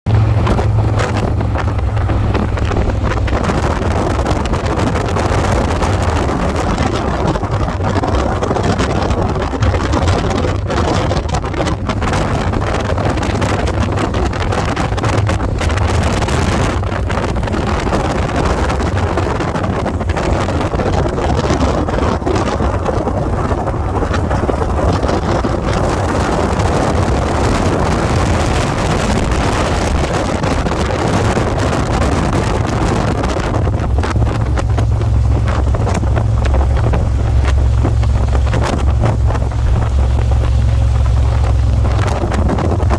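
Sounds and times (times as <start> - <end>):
motorcycle engine rumble: 0.0 - 42.9
wind rushing over microphone: 0.0 - 42.9.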